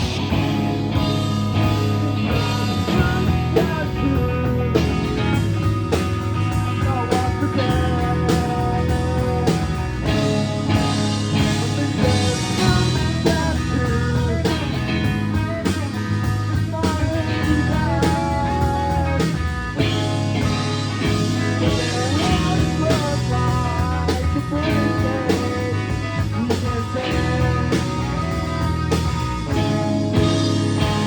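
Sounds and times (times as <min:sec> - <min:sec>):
bass guitar: 0:00.0 - 0:31.0
drums: 0:00.0 - 0:31.0
lead guitar with bending notes: 0:00.0 - 0:31.0.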